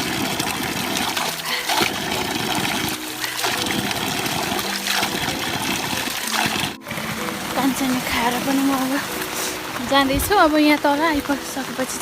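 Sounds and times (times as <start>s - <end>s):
water pouring from a spout: 0.0s - 10.4s
water trickling: 0.0s - 12.0s.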